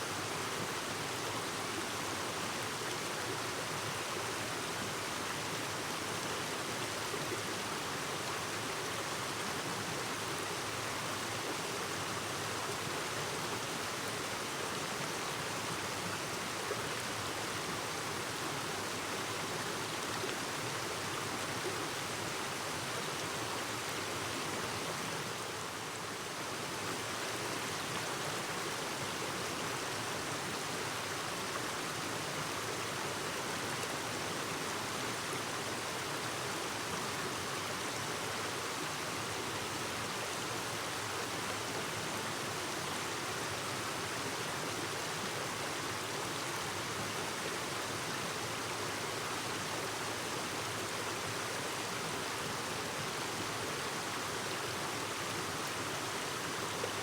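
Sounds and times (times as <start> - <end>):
stream flowing over rocks: 0.1 - 57.0.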